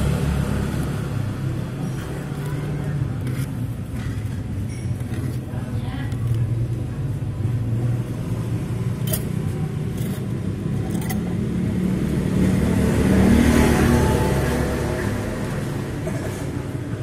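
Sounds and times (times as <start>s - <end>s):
motorbike passing close: 0.0s - 5.8s, 7.4s - 17.0s
motorbike engines in traffic: 0.0s - 17.0s.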